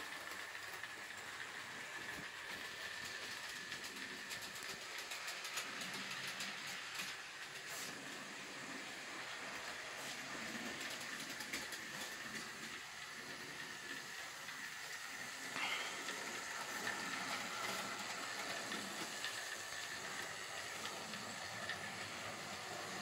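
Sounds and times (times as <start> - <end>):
model train whine: 0.0 - 23.0
running gear hissing on rails: 0.0 - 23.0.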